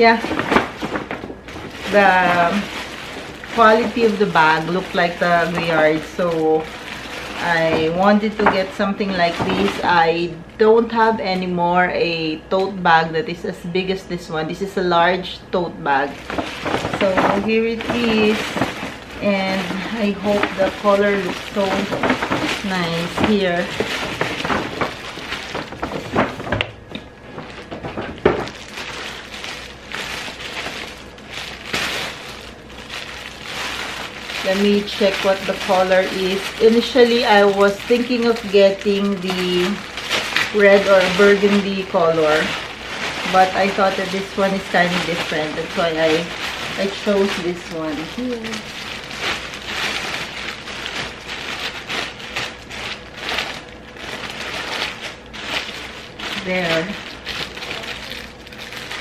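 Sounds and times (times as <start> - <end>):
plastic wrapping crinkling: 0.0 - 59.0.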